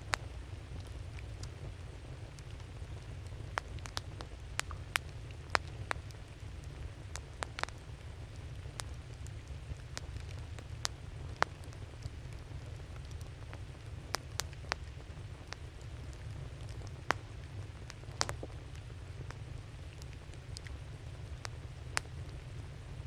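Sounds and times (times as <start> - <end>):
campfire crackling and popping: 0.1 - 23.0.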